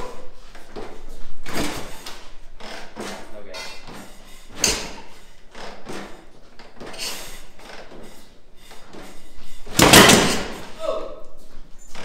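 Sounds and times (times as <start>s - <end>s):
motorcycle kickstarter strokes: 0.3s - 10.8s.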